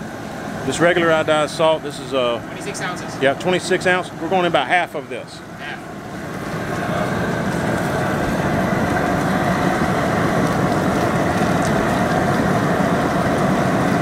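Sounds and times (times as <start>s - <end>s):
propane burner roaring: 0.0s - 14.0s.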